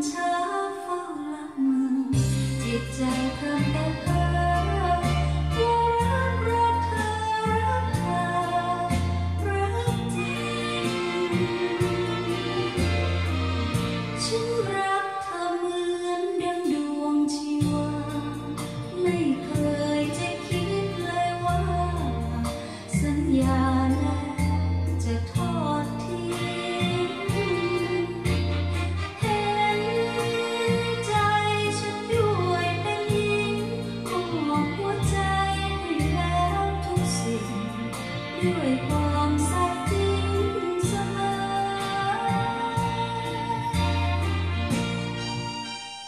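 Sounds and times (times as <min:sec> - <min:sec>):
woman singing a song: 0:00.0 - 0:13.6, 0:14.2 - 0:44.8
bass line: 0:02.1 - 0:14.8, 0:17.6 - 0:45.7.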